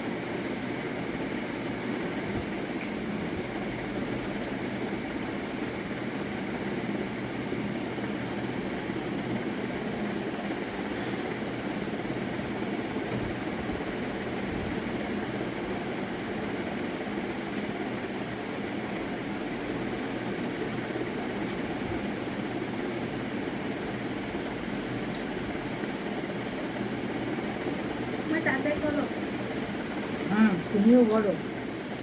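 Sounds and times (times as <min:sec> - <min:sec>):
mechanical hum and hiss: 0:00.0 - 0:32.0.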